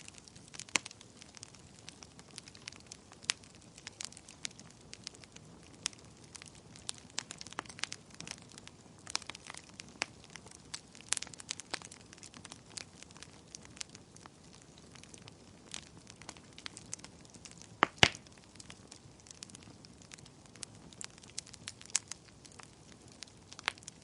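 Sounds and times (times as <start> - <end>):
low fire hiss: 0.0 - 24.0
wood fire crackling and popping: 0.0 - 24.0.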